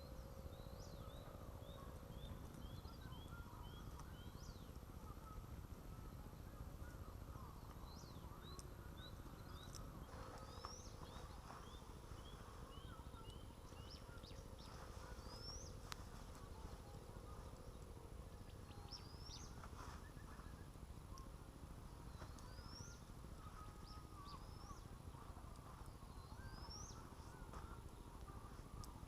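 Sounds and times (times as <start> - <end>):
faint birdsong whistled phrase: 0.0 - 29.0.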